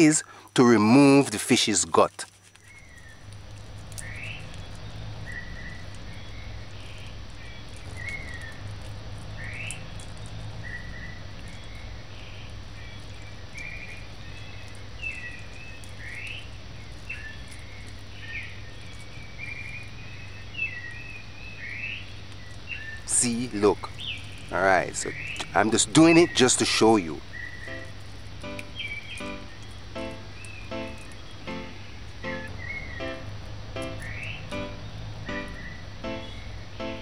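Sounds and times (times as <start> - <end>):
birds chirping and trilling: 0.0 - 37.0
steady low hum: 2.0 - 37.0.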